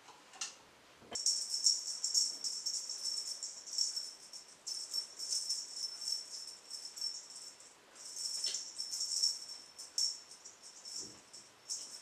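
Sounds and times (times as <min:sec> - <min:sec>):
cat toy jingling: 0:01.2 - 0:12.0.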